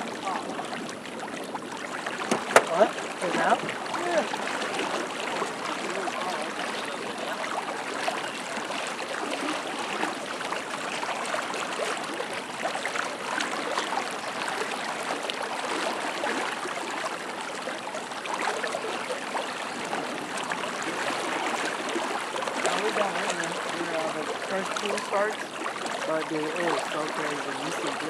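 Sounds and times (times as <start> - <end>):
fast-flowing river water rushing: 0.0 - 28.0.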